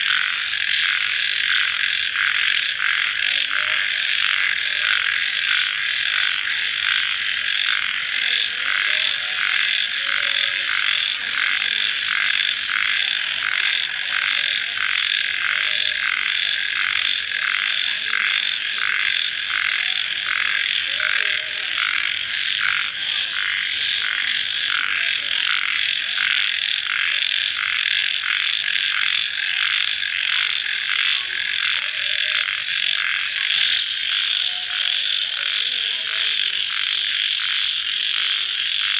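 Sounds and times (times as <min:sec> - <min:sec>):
night animal chorus trilling: 0:00.0 - 0:38.9.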